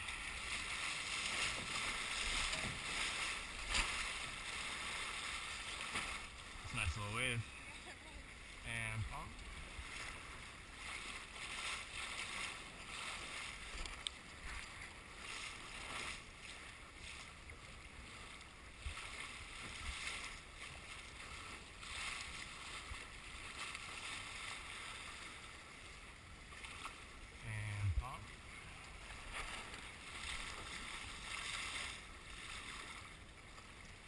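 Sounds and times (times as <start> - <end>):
water rushing along hull: 0.0 - 34.0.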